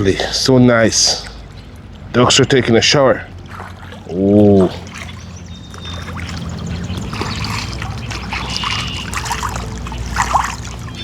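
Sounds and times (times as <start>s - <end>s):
geese splashing in water: 0.0s - 11.0s.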